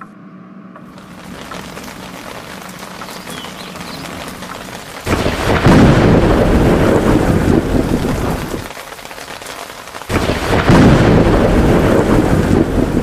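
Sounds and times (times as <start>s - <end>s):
steady rain: 0.8s - 13.0s
thunder clap rolling: 0.9s - 13.0s.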